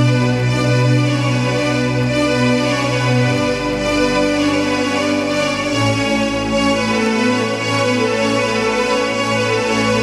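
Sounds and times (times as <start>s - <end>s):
keyboard string chords: 0.0s - 10.0s.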